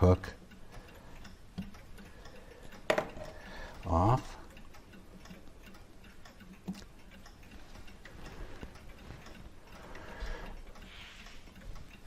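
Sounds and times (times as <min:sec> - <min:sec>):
clock parts clicking and scraping: 0:00.0 - 0:12.0
mechanical clock ticking: 0:00.0 - 0:12.0.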